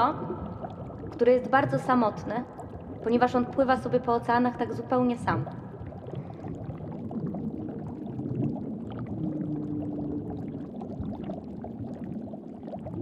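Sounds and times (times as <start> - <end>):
water bubbling and sloshing: 0.0 - 13.0.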